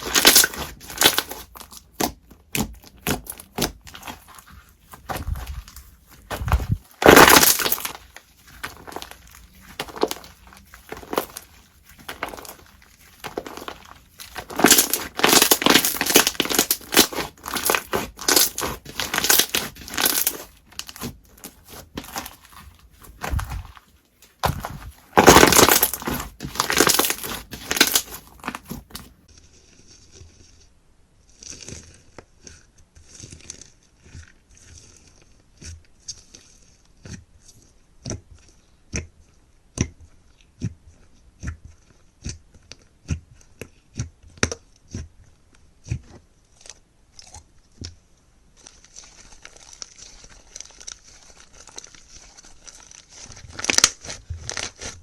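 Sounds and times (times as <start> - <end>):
slime crunching and crackling: 0.0 - 30.6, 40.4 - 55.0.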